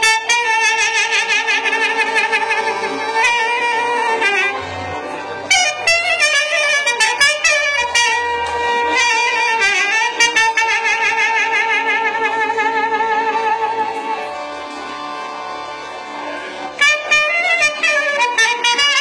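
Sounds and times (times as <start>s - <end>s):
accordion: 0.0s - 19.0s
double bass: 0.0s - 19.0s
reed instrument playing folk tune: 0.0s - 19.0s.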